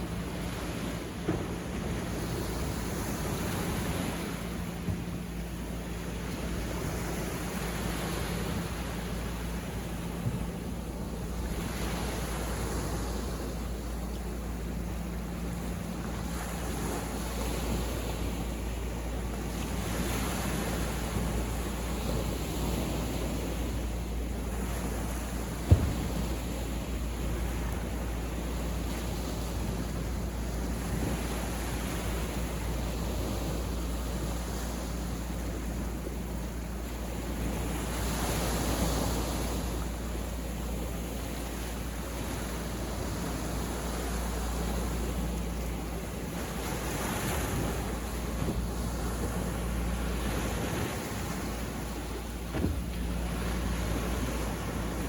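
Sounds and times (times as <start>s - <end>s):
surf washing onto beach: 0.0s - 55.0s.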